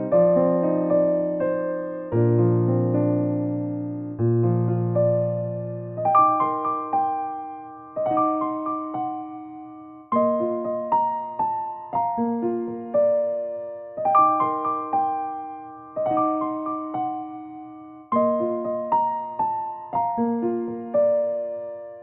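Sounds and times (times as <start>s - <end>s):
gentle electric piano melody: 0.0s - 22.0s.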